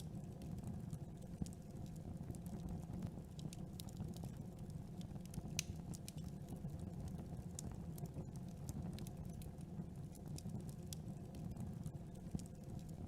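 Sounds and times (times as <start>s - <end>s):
burning wood crackling and popping: 0.0s - 13.0s
low roar of campfire flames: 0.0s - 13.0s.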